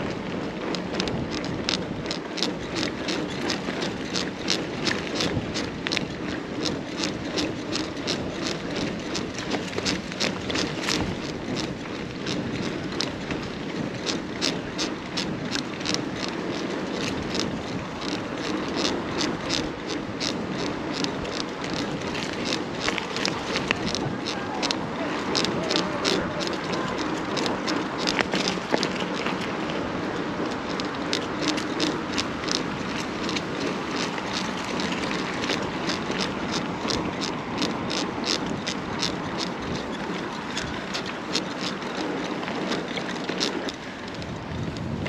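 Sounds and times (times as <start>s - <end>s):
bike clicks and rattles: 0.0s - 45.0s
bike tyre noise: 0.0s - 45.0s.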